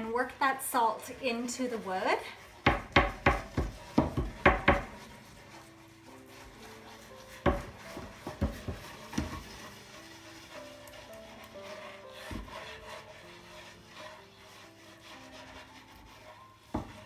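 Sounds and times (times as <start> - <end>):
salt scrubbed on wooden board: 0.0 - 17.0.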